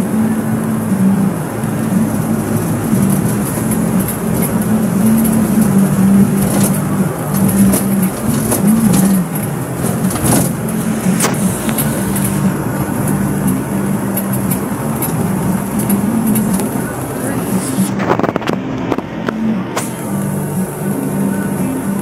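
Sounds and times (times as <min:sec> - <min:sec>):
tyre and wind rush: 0:00.0 - 0:21.5
low engine drone: 0:00.0 - 0:22.0.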